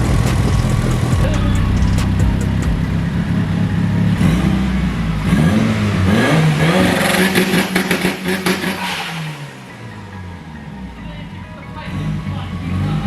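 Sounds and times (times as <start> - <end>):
car engine accelerating hard: 0.0 - 13.0
exhaust crackles: 0.0 - 13.0.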